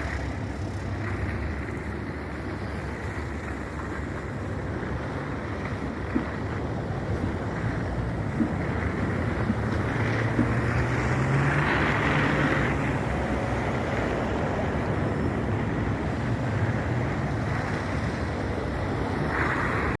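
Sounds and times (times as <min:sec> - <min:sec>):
blizzard wind on microphone: 0:00.0 - 0:20.0
low engine hum: 0:00.0 - 0:20.0.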